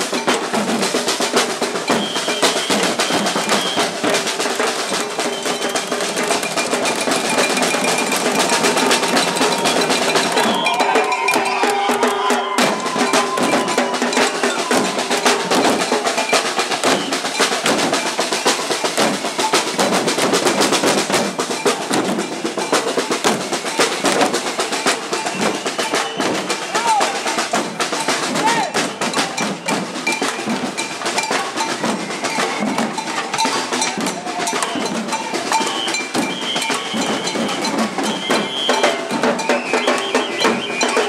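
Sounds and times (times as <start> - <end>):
drummers beating snares and jerry cans: 0.0 - 41.0.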